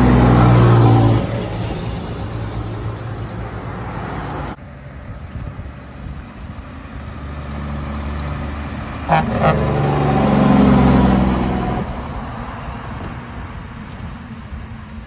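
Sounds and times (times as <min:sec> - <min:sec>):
truck diesel engine approaching: 0:00.0 - 0:04.8, 0:05.8 - 0:13.7
road traffic noise: 0:00.0 - 0:15.0.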